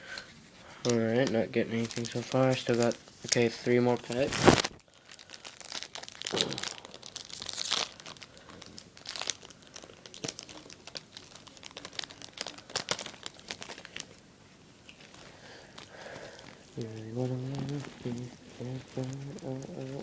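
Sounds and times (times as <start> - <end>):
foil wrapper crinkling and tearing: 0.8 - 14.2, 14.8 - 20.0.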